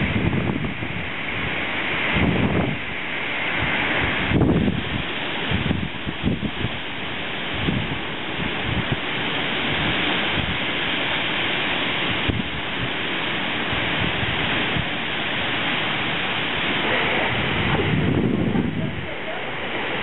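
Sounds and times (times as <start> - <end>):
rain: 0.0 - 20.0
storm wind gusting through trees: 0.0 - 20.0
wind buffeting microphone: 0.0 - 20.0.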